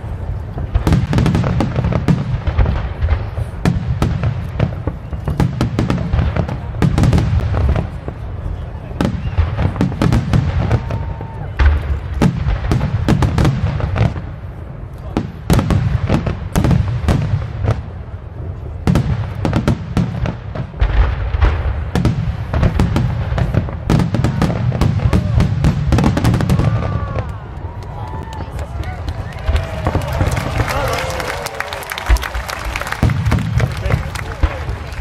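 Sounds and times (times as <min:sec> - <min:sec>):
fireworks booming and cracking: 0:00.0 - 0:35.0.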